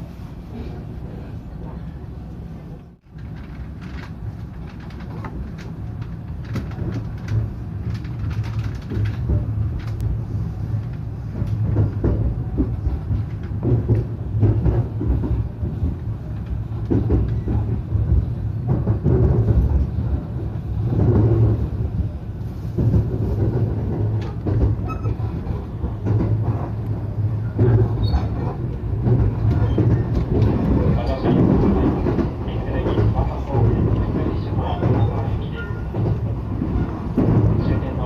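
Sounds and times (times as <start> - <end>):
electric train running hum: 0.0 - 38.0.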